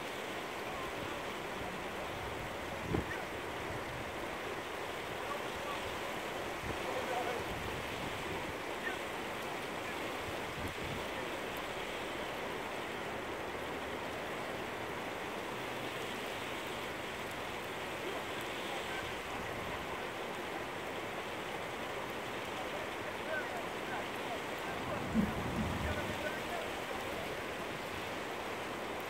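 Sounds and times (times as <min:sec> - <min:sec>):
flood water rushing: 0:00.0 - 0:29.0.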